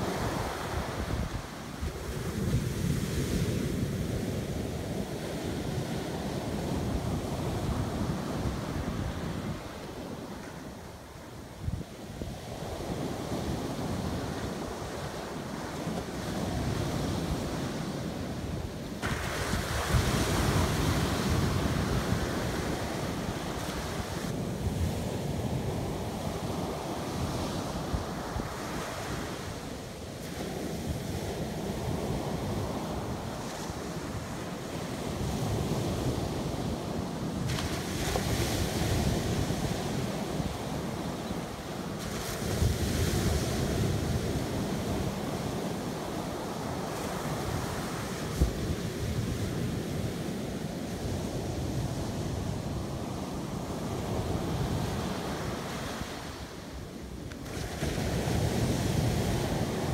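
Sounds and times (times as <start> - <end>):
waves washing up beach: 0.0 - 59.9
wind rumbling on microphone: 0.0 - 59.9.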